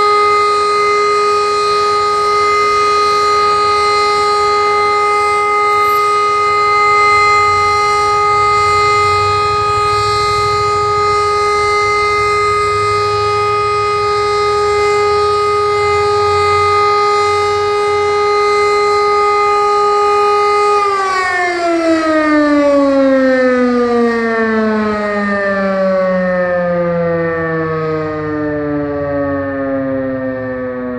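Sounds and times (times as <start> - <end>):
air-raid siren steady tone: 0.0 - 30.9.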